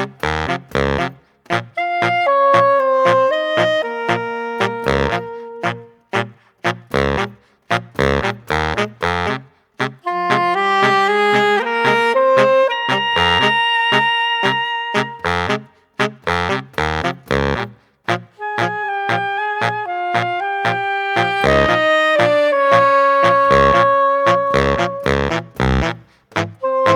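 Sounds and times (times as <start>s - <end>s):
instrumental music with wind melody: 0.0s - 26.9s.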